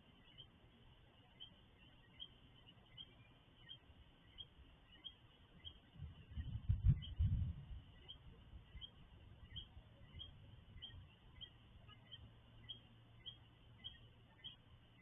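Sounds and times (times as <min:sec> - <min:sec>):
faint low hum: 0:00.0 - 0:15.0
frogs chirping: 0:00.0 - 0:15.0.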